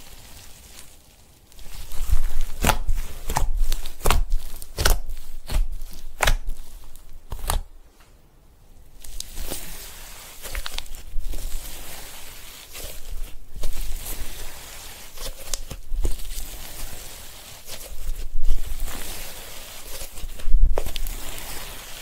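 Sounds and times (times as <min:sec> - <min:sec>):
slime popping and crackling: 0:00.0 - 0:07.7, 0:09.0 - 0:22.0.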